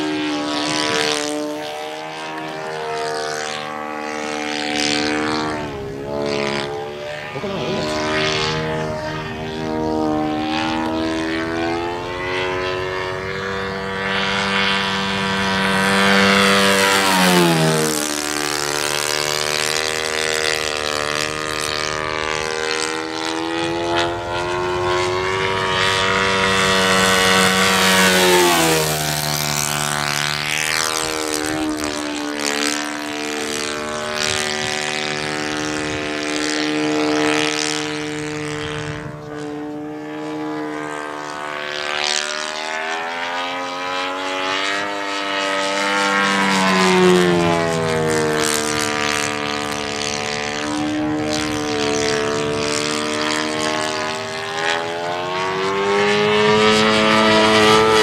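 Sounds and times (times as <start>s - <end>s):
model plane engine in flight: 0.0s - 58.0s.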